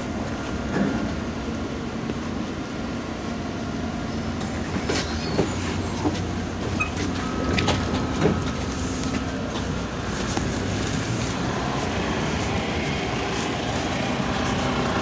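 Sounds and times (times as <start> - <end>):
bus body rattling and knocking: 0.0 - 15.0
bus engine droning: 0.0 - 15.0.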